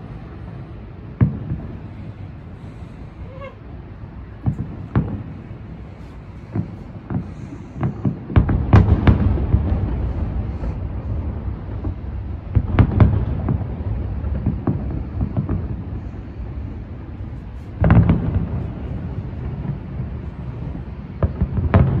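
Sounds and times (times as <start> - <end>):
distant fireworks booms and pops: 0.2 - 3.6, 4.2 - 22.0.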